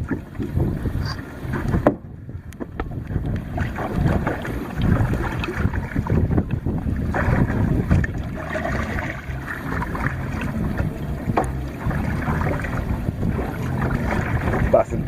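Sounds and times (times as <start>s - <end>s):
water splashing around kayak: 0.0s - 15.0s
wind rumbling on microphone: 0.0s - 15.0s.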